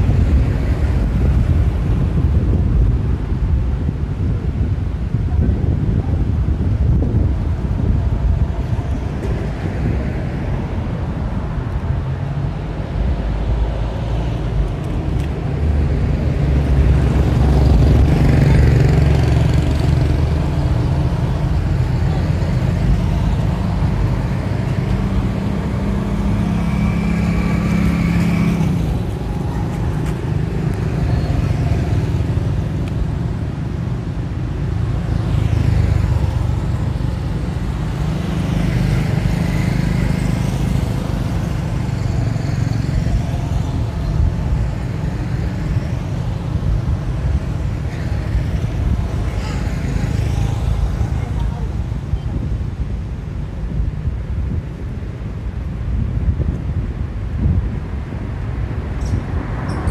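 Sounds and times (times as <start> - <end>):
low traffic rumble: 0.0 - 59.9
vehicles passing: 0.0 - 59.9.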